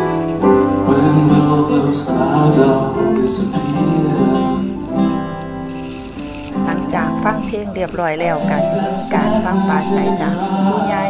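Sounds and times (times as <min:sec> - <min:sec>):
acoustic guitar: 0:00.0 - 0:11.0
grand piano: 0:00.0 - 0:11.0.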